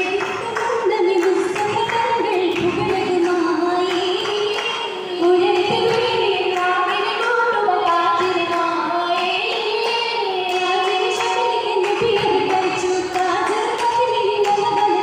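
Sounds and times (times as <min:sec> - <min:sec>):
hand claps: 0:00.0 - 0:04.9, 0:05.5 - 0:15.0
women singing in a group: 0:00.0 - 0:15.0.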